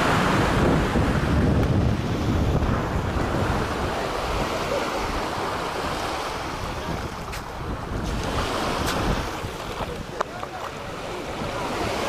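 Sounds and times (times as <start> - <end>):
small waves washing ashore: 0.0 - 12.0
wind buffeting microphone: 0.0 - 12.0.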